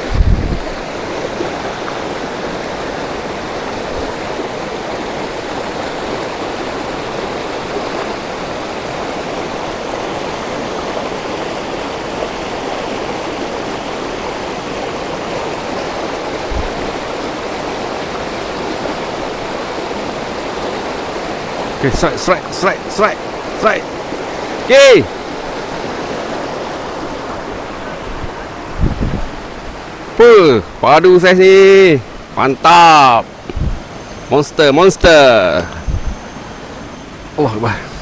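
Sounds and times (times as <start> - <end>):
stream rapids rushing over rocks: 0.0 - 38.0.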